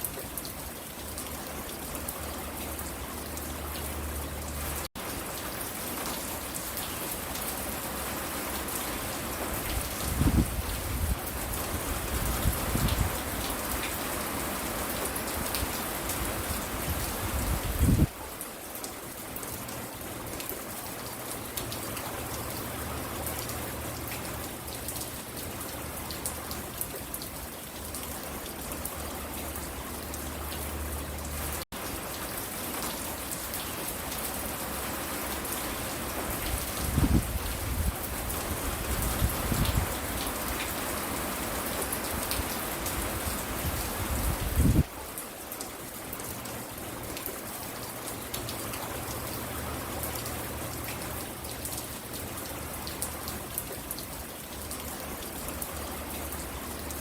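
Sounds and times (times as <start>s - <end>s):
rain falling on a porch: 0.0s - 57.0s.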